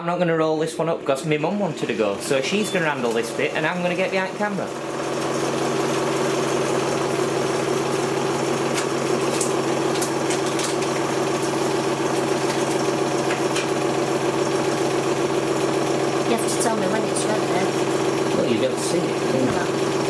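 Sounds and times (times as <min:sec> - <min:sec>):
candyfloss machine motor hum: 0:00.4 - 0:20.0.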